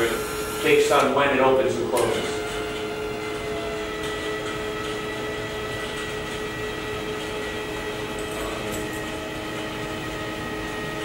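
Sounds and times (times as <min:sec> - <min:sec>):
constant whining tones: 0:00.0 - 0:11.0
machinery humming: 0:00.0 - 0:11.0.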